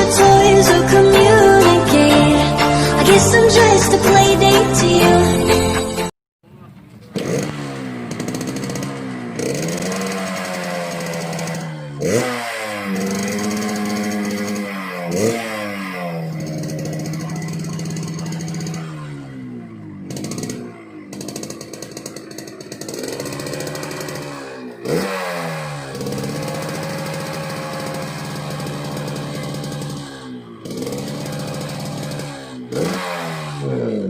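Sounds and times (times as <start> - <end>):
two-stroke motorcycle engine revving: 6.5 - 34.0.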